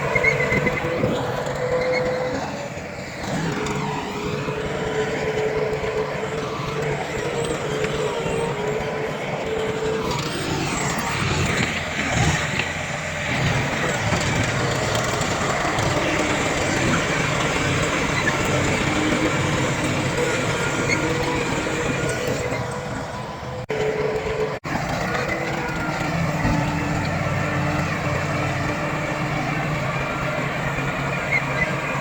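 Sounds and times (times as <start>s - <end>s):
heavy diesel machinery running: 0.0s - 32.0s.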